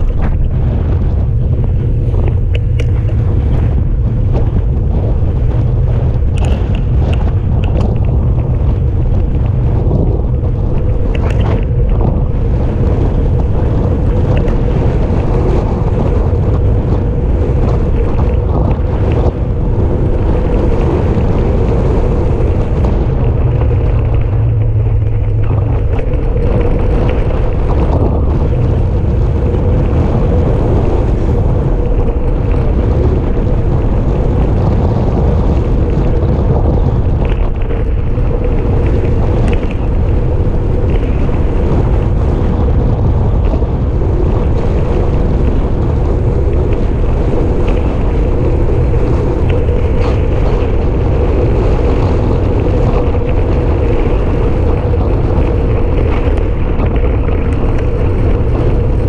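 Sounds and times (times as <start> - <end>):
constant hum: 0.0 - 59.0
wind rumble on microphone: 0.0 - 59.0.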